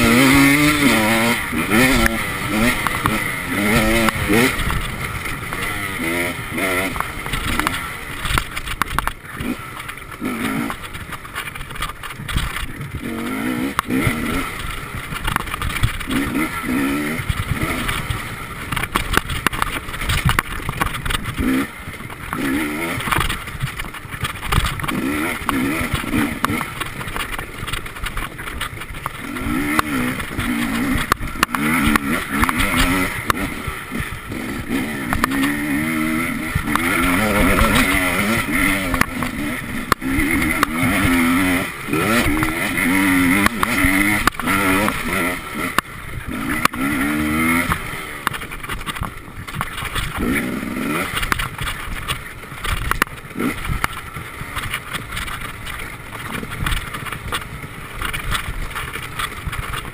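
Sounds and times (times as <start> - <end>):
bike knocking on rough track: 0.0 - 59.9
motorcycle engine revving: 0.0 - 59.9.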